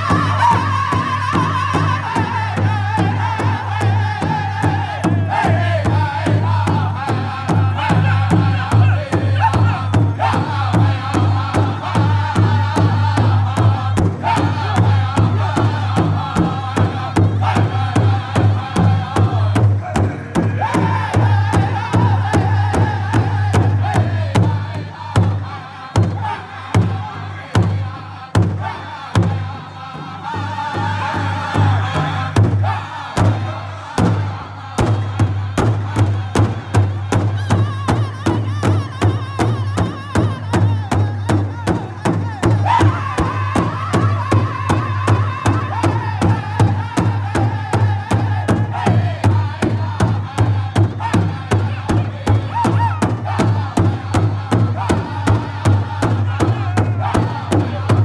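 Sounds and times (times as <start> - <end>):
group singing in high voices: 0.0 - 58.0
large hide drum beating: 0.0 - 58.0.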